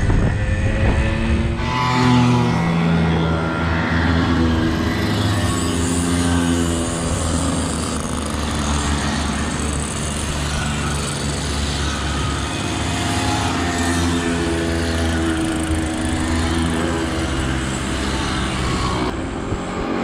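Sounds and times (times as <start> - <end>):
two-stroke moped engines passing: 0.0 - 20.0.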